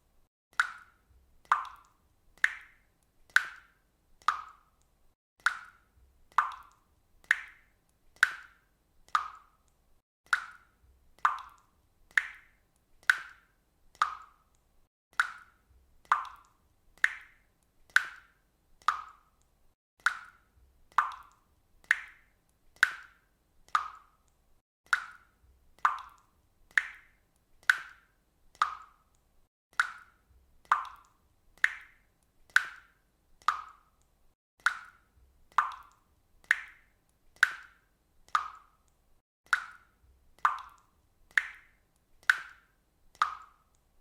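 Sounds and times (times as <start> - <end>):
water dripping: 0.5 - 44.0.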